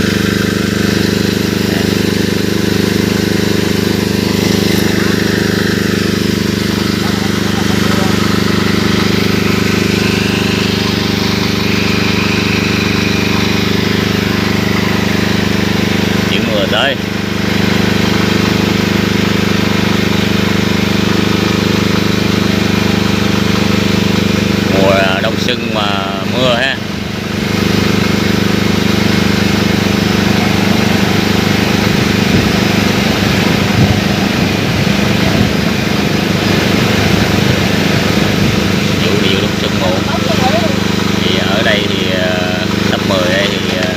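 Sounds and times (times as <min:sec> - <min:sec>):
drone rotors humming: 0:00.0 - 0:43.9.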